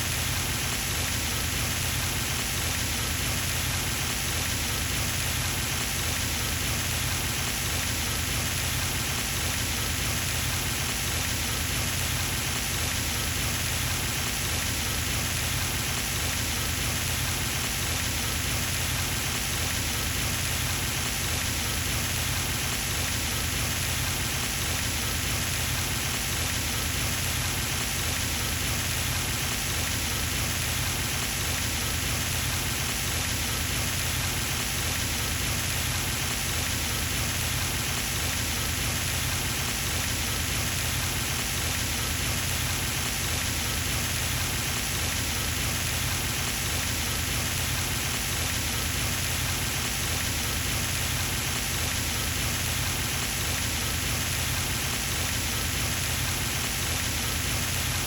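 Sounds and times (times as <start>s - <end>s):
fountain water splashing: 0.2s - 58.0s.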